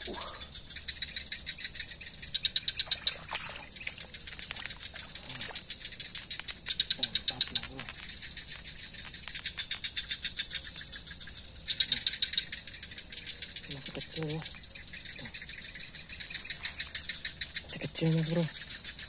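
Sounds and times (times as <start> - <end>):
insects pulsing calls: 0.0 - 19.0.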